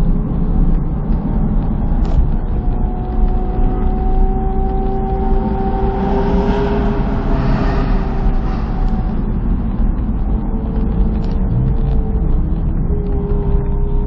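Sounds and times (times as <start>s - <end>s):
car engine drone: 0.0s - 14.0s
wind and road noise: 0.0s - 14.0s.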